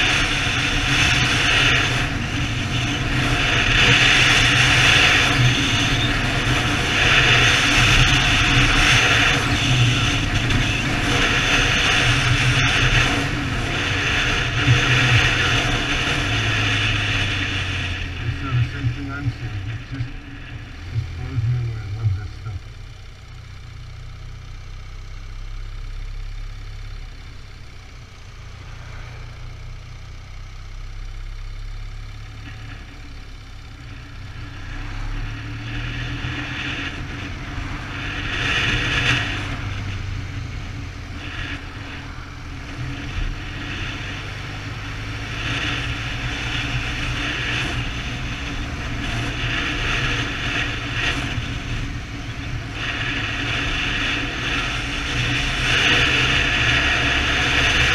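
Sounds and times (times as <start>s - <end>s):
motorcycle engine and road rumble: 0.0s - 57.9s.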